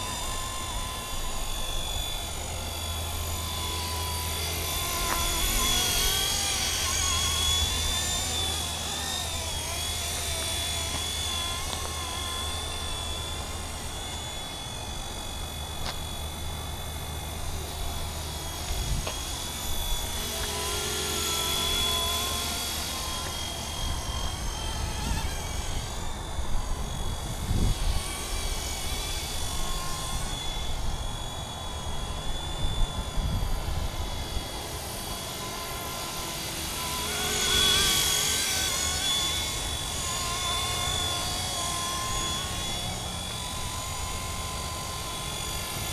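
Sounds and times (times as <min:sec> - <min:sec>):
model helicopter whine: 0:00.0 - 0:45.9.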